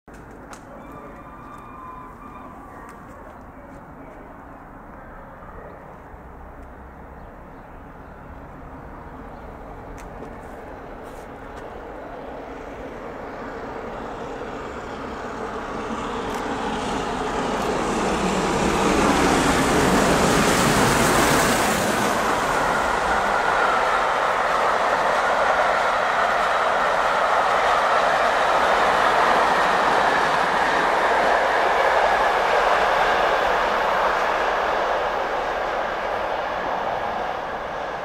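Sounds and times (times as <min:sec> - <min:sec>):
steam locomotive rushing past: 0:00.2 - 0:03.2, 0:07.8 - 0:38.0.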